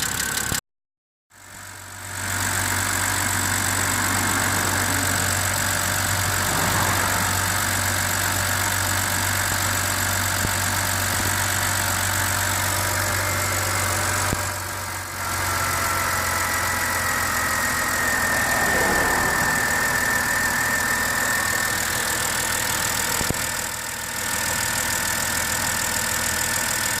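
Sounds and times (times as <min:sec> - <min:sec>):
car engine idling: 0:01.4 - 0:27.0.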